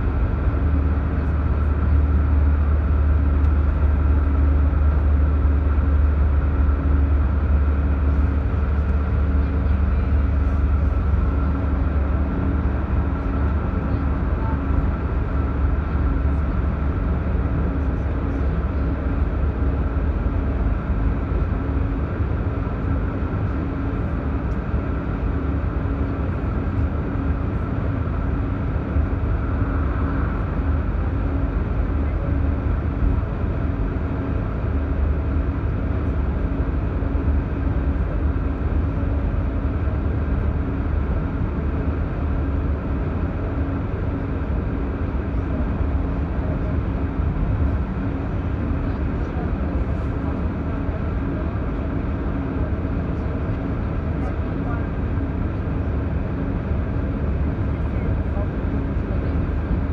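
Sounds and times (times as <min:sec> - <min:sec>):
constant train hum: 0:00.0 - 0:59.9.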